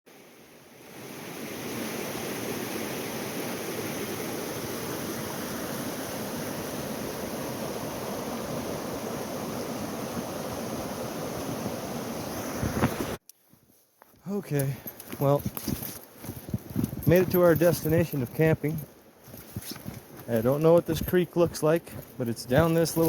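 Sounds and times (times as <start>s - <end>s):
creek running over rocks: 0.2s - 13.2s, 14.4s - 23.0s.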